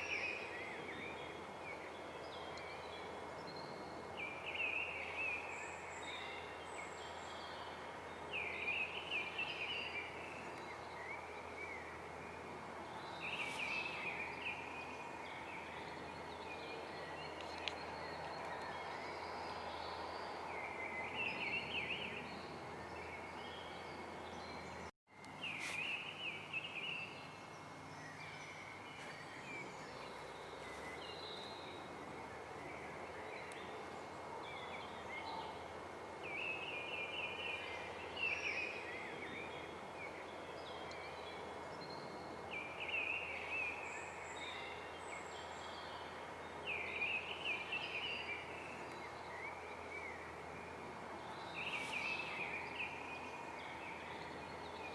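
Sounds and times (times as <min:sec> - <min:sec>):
songbirds twittering: 0:00.0 - 0:54.9
steady outdoor hiss: 0:00.0 - 0:54.9.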